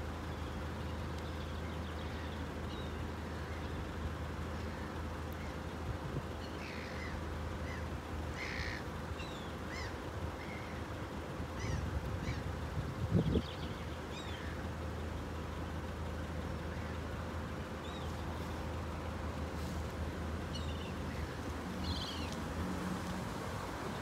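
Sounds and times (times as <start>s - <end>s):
birds chirping: 0.0s - 22.9s
faint constant tone: 0.0s - 24.0s
steady low rumble: 0.0s - 24.0s.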